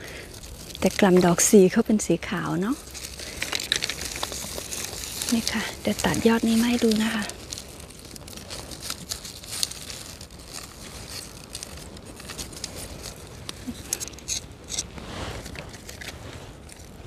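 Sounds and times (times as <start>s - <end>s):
leaves rustling: 0.0s - 17.0s.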